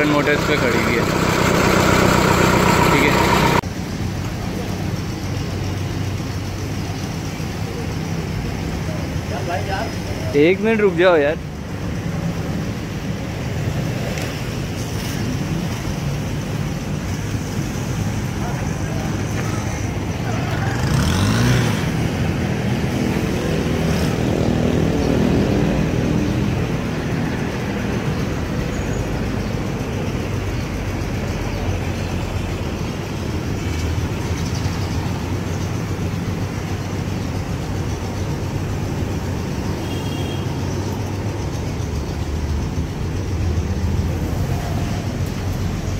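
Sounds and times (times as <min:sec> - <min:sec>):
vehicle engine idling: 0:00.0 - 0:45.9.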